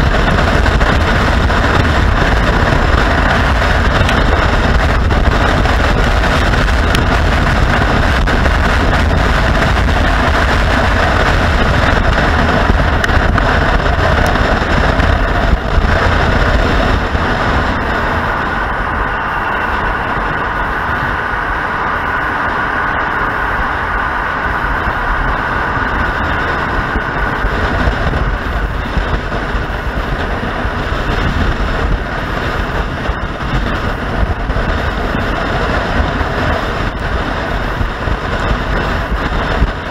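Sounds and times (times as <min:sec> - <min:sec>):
motorcycle running: 0:00.0 - 0:39.9
wind rushing over microphone: 0:00.0 - 0:39.9.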